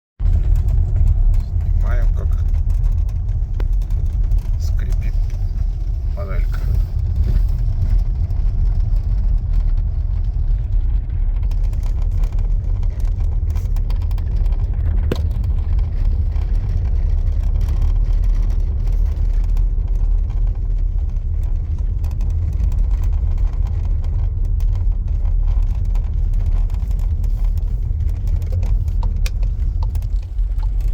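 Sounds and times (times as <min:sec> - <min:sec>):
road and engine rumble in car: 0:00.2 - 0:30.9
dashboard trim creaks and ticks: 0:00.4 - 0:09.9, 0:11.2 - 0:30.9.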